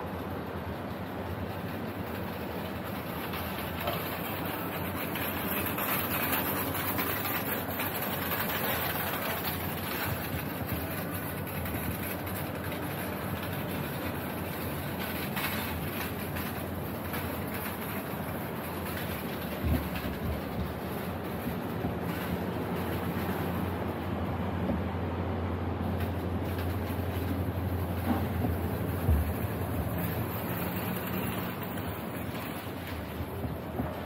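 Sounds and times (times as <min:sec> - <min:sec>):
street noise: 0:00.0 - 0:34.0
train rumbling on track: 0:00.0 - 0:34.0.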